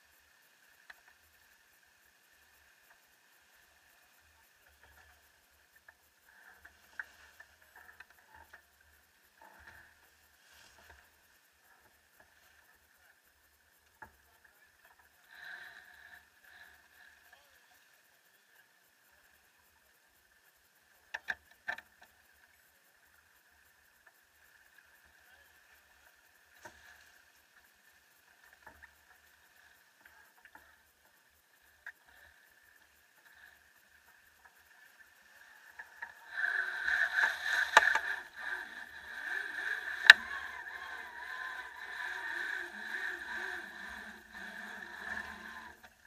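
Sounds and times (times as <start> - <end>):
faint clicks: 0.0 - 46.0.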